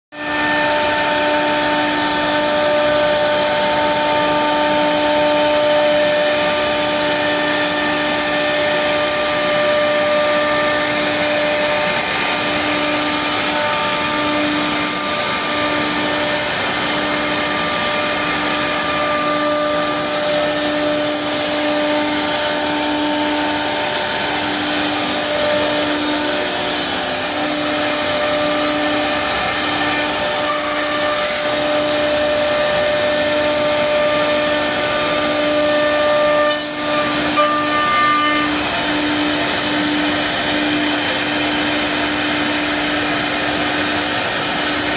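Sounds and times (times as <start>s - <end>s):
router spindle whine: 0.2s - 44.9s.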